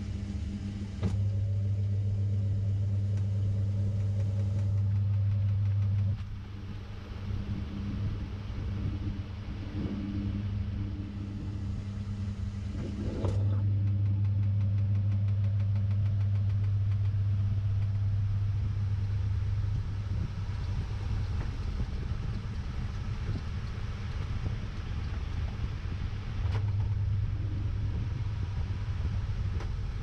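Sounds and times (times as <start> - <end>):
faint rising whine: 0.0 - 30.0
washing machine motor humming: 0.0 - 30.0.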